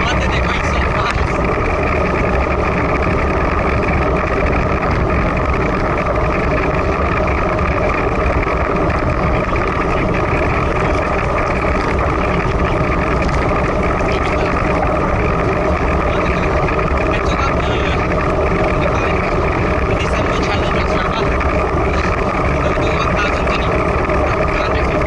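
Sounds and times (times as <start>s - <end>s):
bicycle tyres on wet road: 0.0s - 25.0s.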